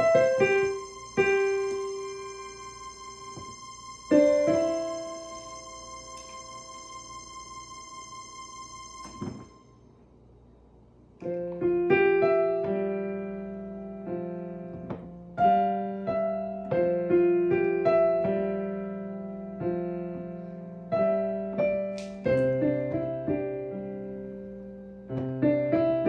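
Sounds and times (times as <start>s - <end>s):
digital piano played slowly: 0.0s - 26.0s.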